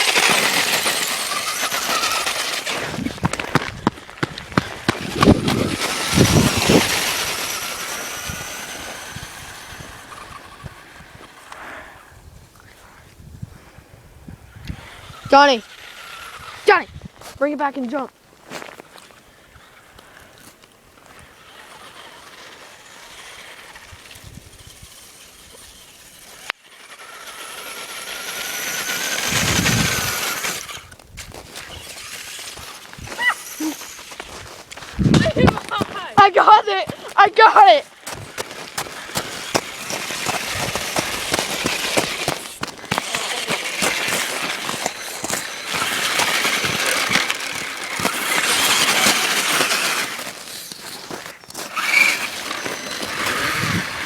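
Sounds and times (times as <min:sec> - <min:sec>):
toy truck motor whine: 0:00.0 - 0:11.7, 0:14.4 - 0:17.1, 0:18.6 - 0:54.0.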